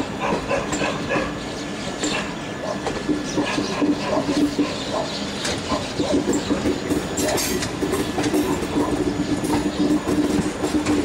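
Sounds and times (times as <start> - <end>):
low train hum and rumble: 0.0 - 11.0
train wheels clacking over rails: 0.0 - 11.0.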